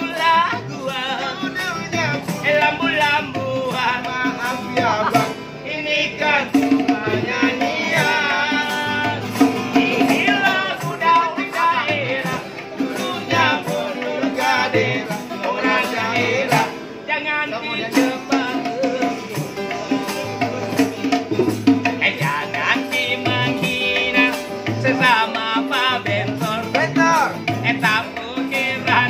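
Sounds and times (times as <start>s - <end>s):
acoustic guitar strumming: 0.0s - 29.0s
hand drum beating: 0.0s - 29.0s
men singing: 0.0s - 29.0s.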